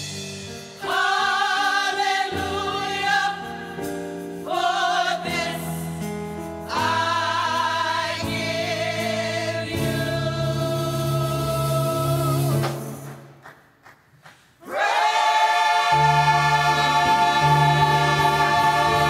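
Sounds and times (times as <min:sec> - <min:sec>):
gospel choir singing in harmony: 0:00.0 - 0:13.1, 0:14.6 - 0:19.0.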